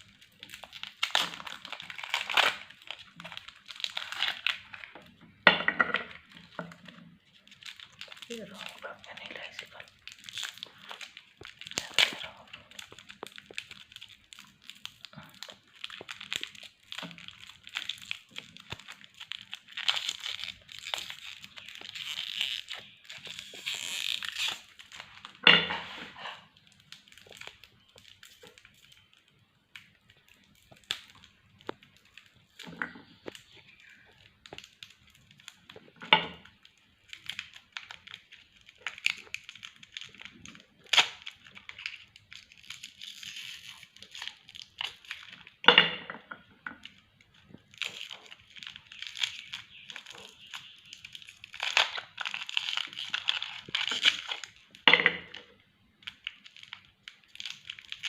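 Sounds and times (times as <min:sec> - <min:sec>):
sharp candy cracks: 0:00.0 - 0:25.7, 0:26.4 - 0:58.0
hard candy crunching in grinder: 0:00.0 - 0:45.6, 0:46.8 - 0:58.0.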